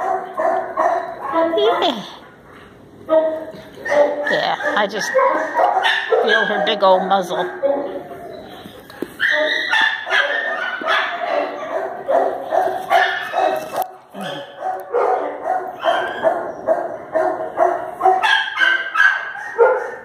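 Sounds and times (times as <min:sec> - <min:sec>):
dog barking: 0:00.0 - 0:02.0, 0:03.8 - 0:07.9, 0:09.2 - 0:20.0.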